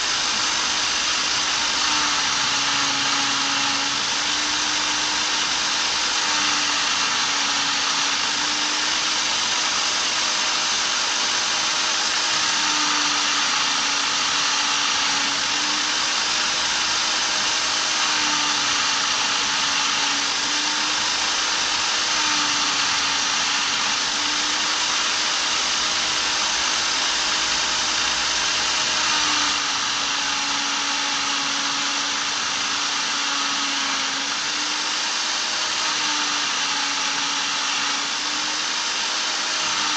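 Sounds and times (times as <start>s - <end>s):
electric drill motor whine: 0.0s - 39.9s.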